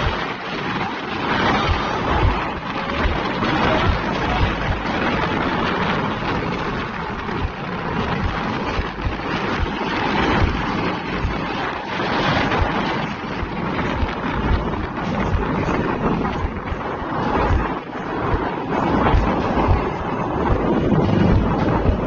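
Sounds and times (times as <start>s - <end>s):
road traffic noise: 0.0s - 22.0s
wind buffeting microphone: 0.0s - 22.0s.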